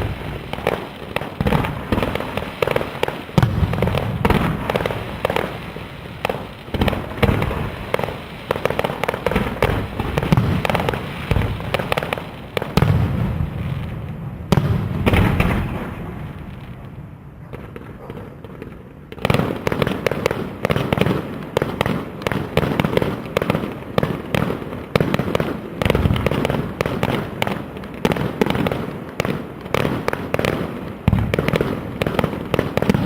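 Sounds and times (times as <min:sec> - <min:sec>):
fireworks bursts and bangs: 0:00.0 - 0:33.0.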